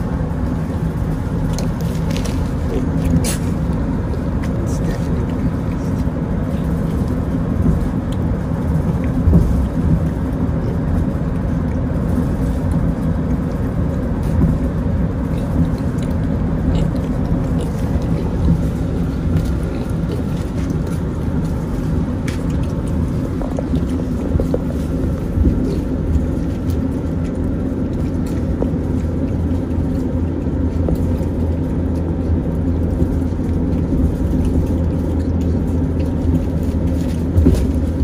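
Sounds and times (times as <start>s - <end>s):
car road and engine drone: 0.0s - 38.0s
piglets eating from plastic tubs: 0.0s - 38.0s.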